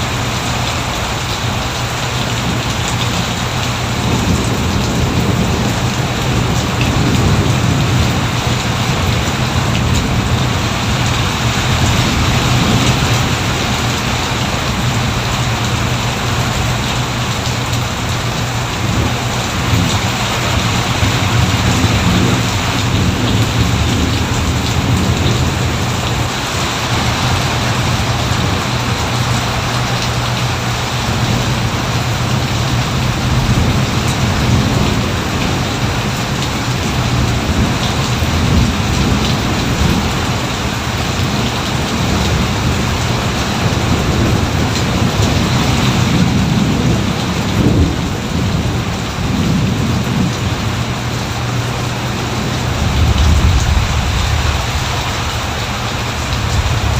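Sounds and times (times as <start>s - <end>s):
heavy rain: 0.0s - 56.9s
low rumble of thunder: 0.0s - 56.9s.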